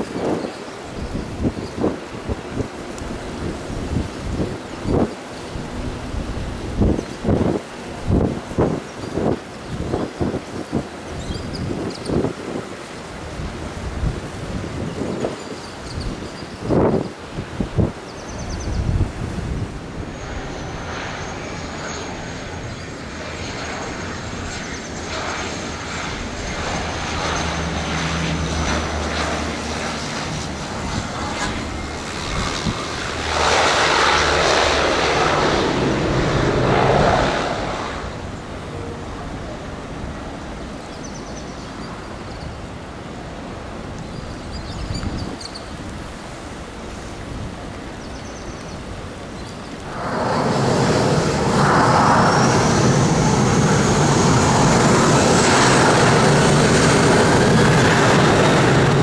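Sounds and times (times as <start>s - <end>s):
airliner engines passing: 0.0s - 59.0s.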